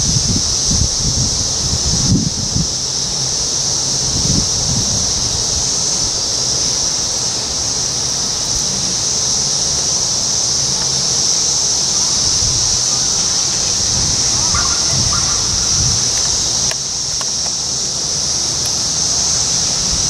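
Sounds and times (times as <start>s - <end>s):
cicadas droning: 0.0s - 20.0s
wind rumble on microphone: 0.0s - 20.0s.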